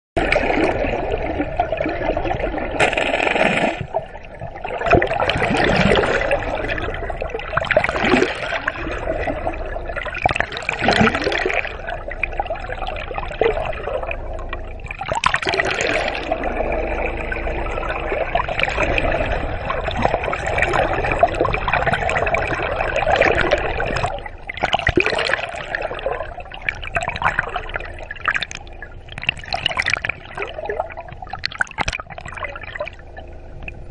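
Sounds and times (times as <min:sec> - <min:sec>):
water sloshing and gurgling: 0:00.2 - 0:33.9.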